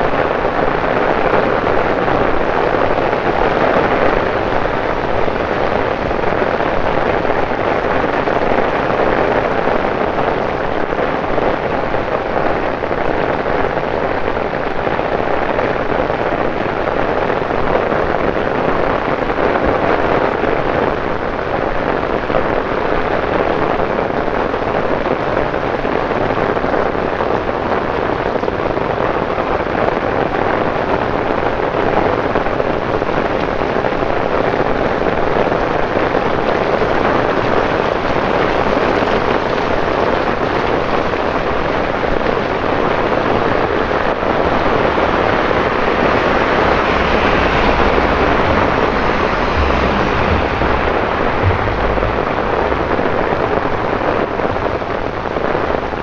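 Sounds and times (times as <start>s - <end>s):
torrential rain on street: 0.0s - 56.0s.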